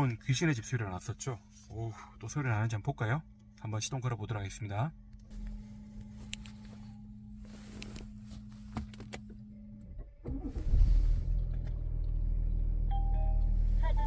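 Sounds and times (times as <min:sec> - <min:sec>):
car engine idling: 0:00.0 - 0:14.0
steady low hum: 0:00.0 - 0:14.0.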